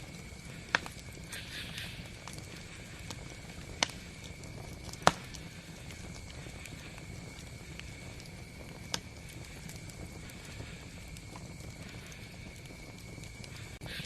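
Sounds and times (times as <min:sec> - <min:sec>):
campfire crackling: 0:00.0 - 0:14.0
sharp pops from fire: 0:00.0 - 0:14.0.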